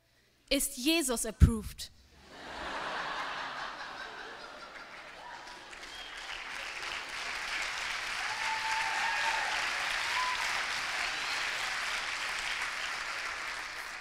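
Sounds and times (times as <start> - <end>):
audience applauding: 2.4 - 14.0.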